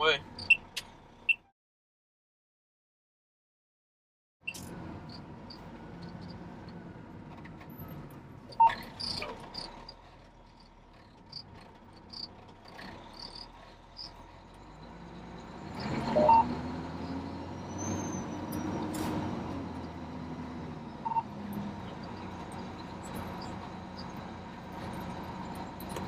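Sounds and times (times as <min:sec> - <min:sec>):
fire engine running: 0:04.5 - 0:26.0.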